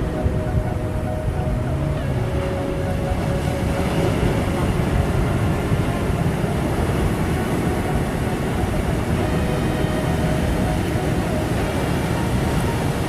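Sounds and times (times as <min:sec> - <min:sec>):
faint engine-like tones: 0:00.0 - 0:13.0
heavy surf rumbling: 0:00.0 - 0:13.0
wind: 0:00.0 - 0:13.0.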